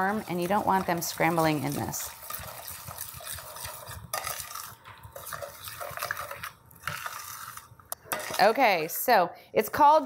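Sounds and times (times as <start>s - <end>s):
utensil stirring and scraping pan: 0.0s - 9.2s.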